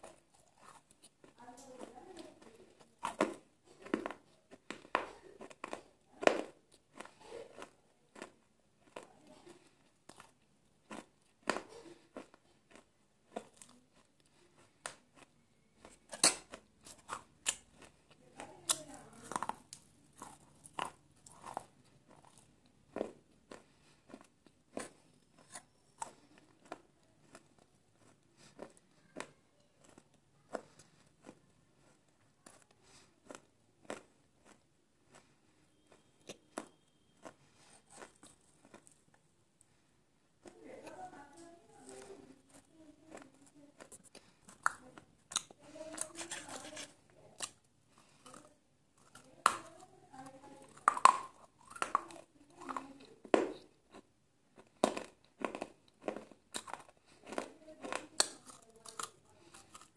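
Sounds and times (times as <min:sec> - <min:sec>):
quiet chewing: 0:00.0 - 0:59.9.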